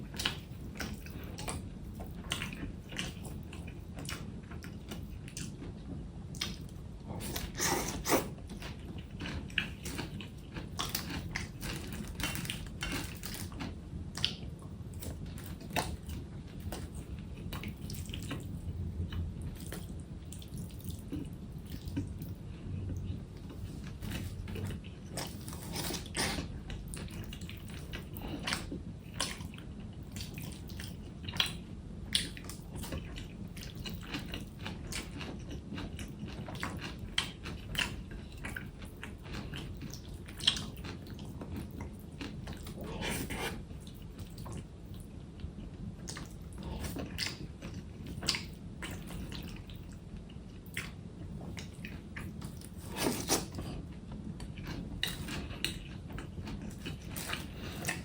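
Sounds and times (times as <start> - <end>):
person chewing with wet smacks: 0.0 - 58.0.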